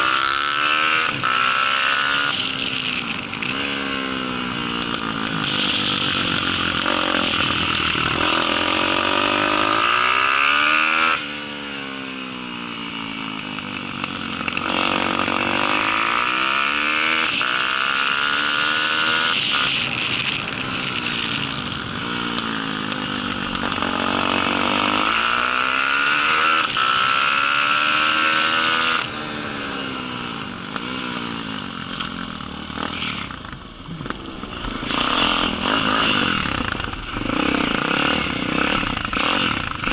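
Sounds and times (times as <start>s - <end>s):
pit bike engine revving: 0.0s - 12.0s, 13.6s - 39.9s.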